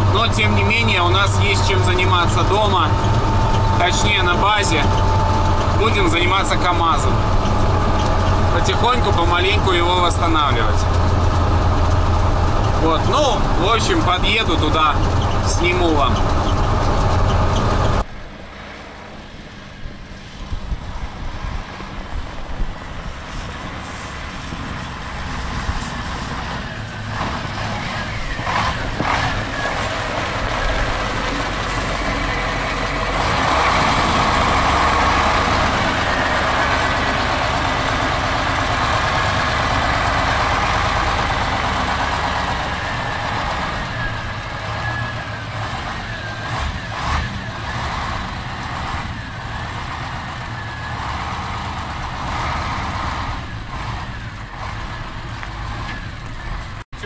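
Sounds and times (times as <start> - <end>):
truck engine driving past: 0.0 - 57.0.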